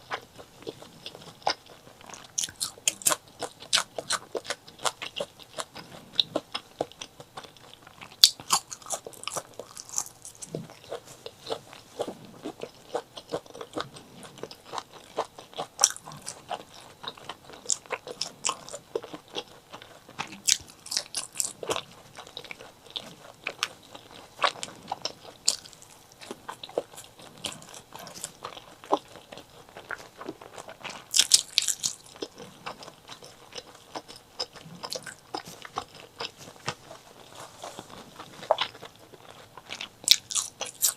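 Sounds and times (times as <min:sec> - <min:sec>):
crunching and chewing food: 0:00.0 - 0:40.9.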